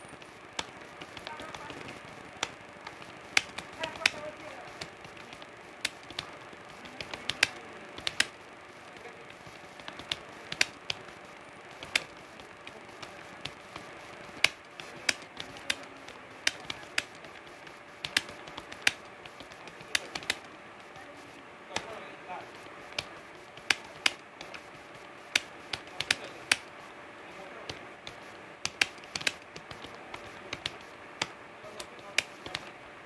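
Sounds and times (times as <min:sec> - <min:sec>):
keyboard typing clicks: 0:00.0 - 0:32.7.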